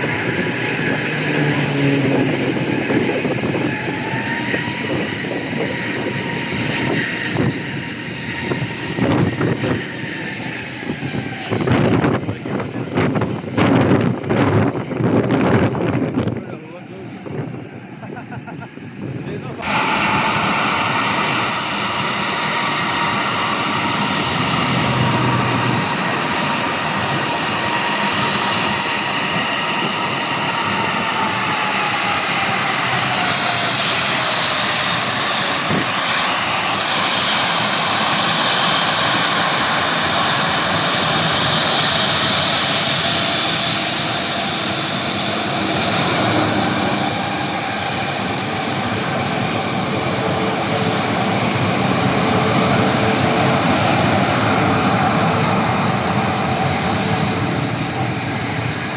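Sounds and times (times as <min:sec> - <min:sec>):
airliner turbine engines whining: 0:00.0 - 0:58.9.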